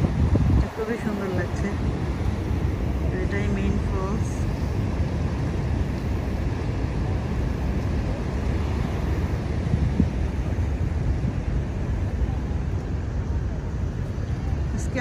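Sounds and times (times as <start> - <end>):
waterfall and rapids rushing: 0.0 - 15.0
wind buffeting microphone: 0.0 - 15.0.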